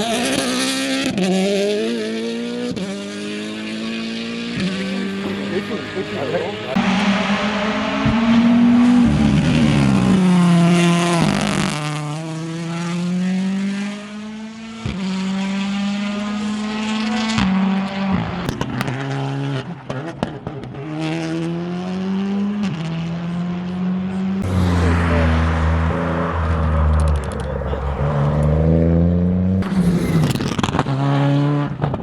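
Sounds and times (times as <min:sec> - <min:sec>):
rally car engine shifting gears: 0:00.0 - 0:32.0.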